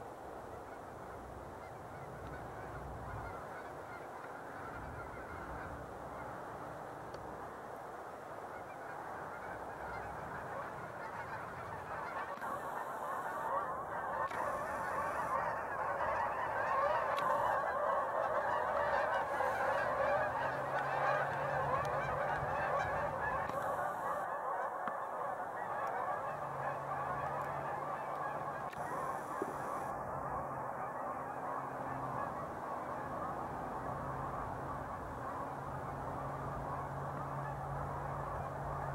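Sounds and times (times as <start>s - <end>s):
geese honking: 0.5s - 6.9s, 8.3s - 38.9s.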